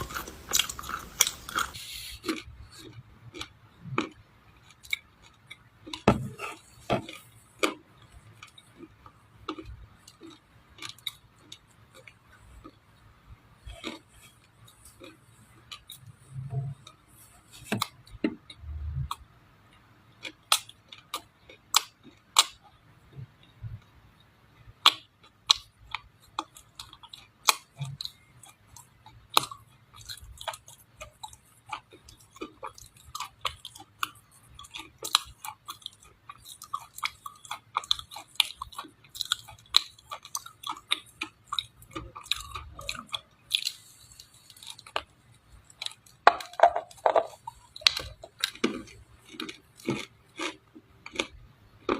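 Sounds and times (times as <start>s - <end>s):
crunchy chewing: 0.0s - 12.9s, 13.6s - 19.3s, 20.1s - 23.6s, 24.8s - 51.9s.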